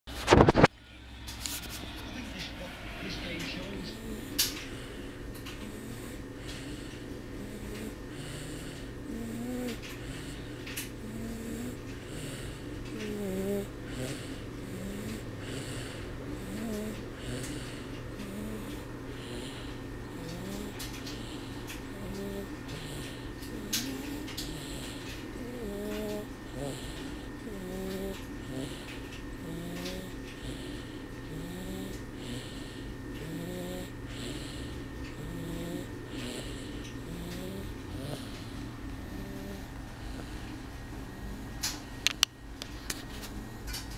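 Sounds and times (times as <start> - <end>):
steady low hum: 0.1 - 43.9
person snoring: 3.6 - 41.8.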